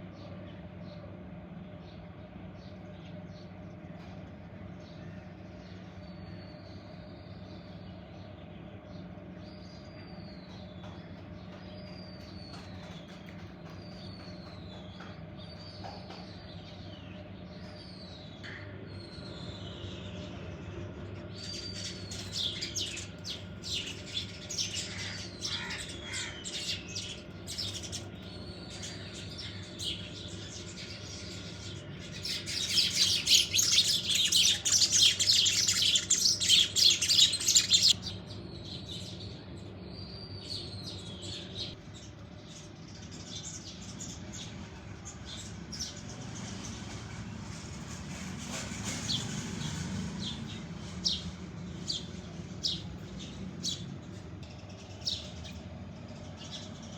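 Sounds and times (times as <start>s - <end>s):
birds chirping: 0.0s - 47.6s, 48.9s - 56.9s.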